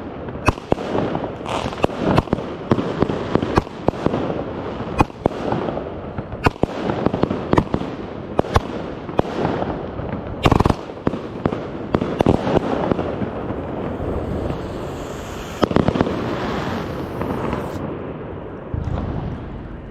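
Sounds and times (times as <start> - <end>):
firework bangs: 0.2 - 19.7
firework hiss and crackle: 0.4 - 7.8, 9.2 - 18.0.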